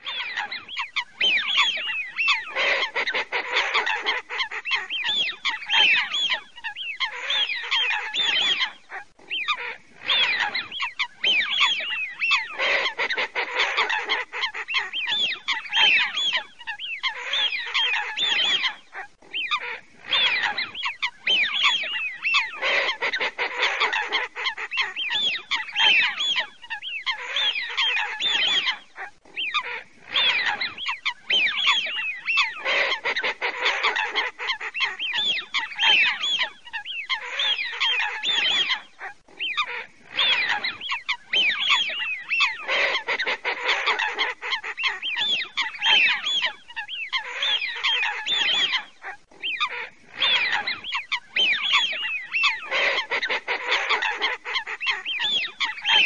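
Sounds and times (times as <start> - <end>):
harsh low bird calls: 0.0 - 56.0
whistled waterbird calls: 0.0 - 56.0.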